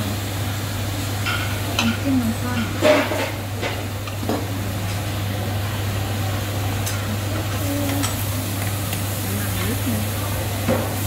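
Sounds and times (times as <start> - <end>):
meat sizzling on grill: 0.0 - 11.0.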